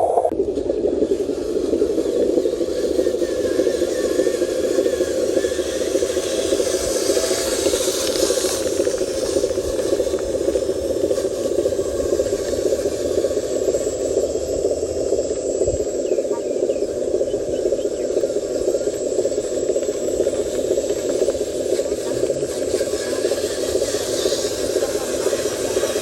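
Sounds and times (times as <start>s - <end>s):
small electric motor droning: 0.0s - 26.0s.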